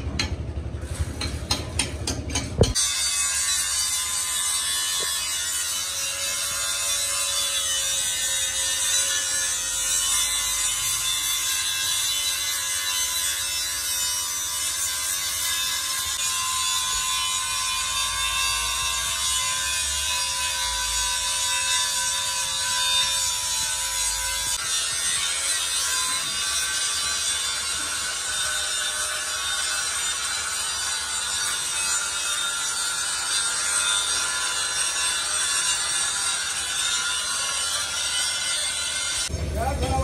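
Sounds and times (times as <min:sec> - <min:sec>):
angle grinder cutting steel: 0:02.6 - 0:39.3.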